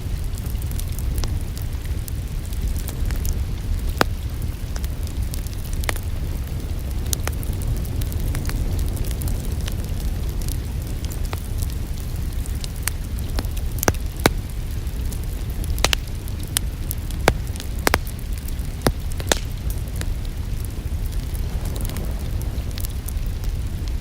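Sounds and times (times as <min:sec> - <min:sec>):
soft hiss of rain: 0:00.0 - 0:24.0
wood fire crackling and popping: 0:00.0 - 0:24.0.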